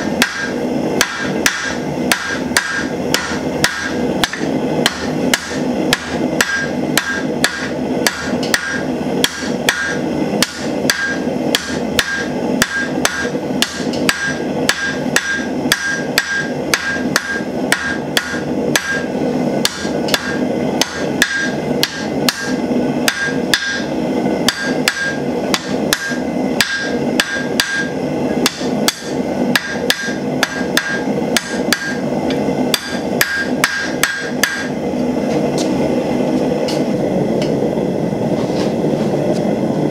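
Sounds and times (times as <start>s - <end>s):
hammer striking steel on anvil: 0.0s - 35.8s
forge burner roaring: 0.0s - 39.9s.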